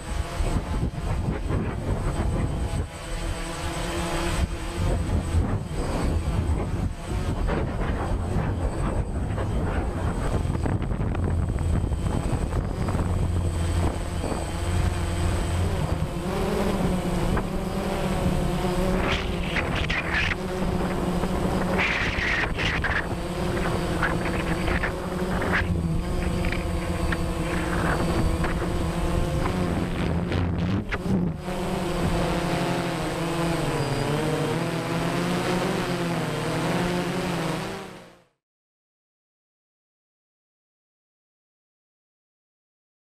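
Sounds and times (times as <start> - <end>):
drone propellers buzzing: 0.0 - 38.4.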